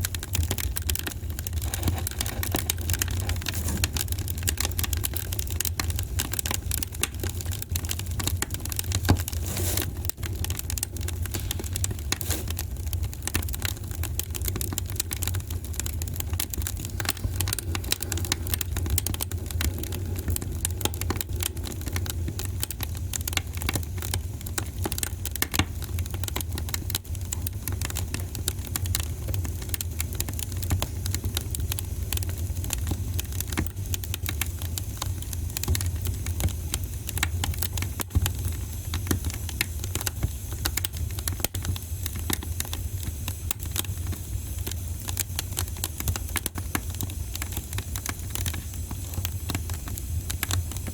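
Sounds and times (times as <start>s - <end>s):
low fire rumble: 0.0s - 50.9s
wood fire crackling: 0.0s - 50.9s.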